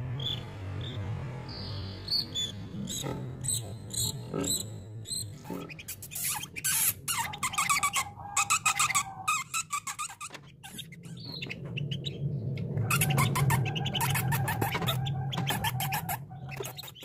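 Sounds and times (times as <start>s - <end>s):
canary singing: 0.1s - 17.0s.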